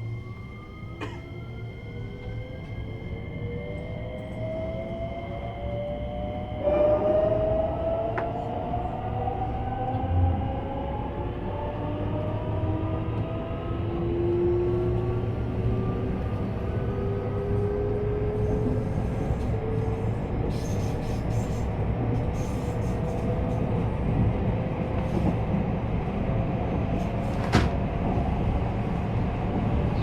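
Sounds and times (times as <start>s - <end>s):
rumble of wheels on rail: 0.0s - 30.0s.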